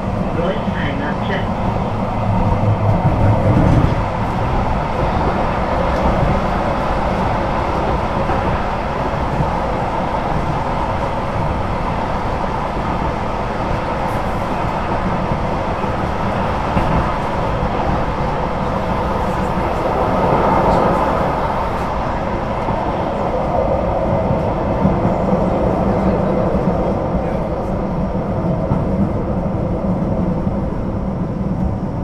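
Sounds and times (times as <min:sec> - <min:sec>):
light rail car running: 0:00.0 - 0:32.0.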